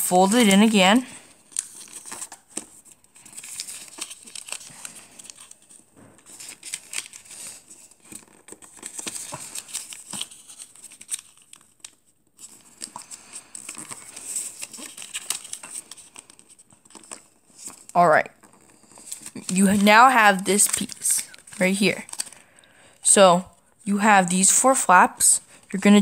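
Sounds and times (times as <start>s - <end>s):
paper rustling and crinkling: 0.0s - 22.6s.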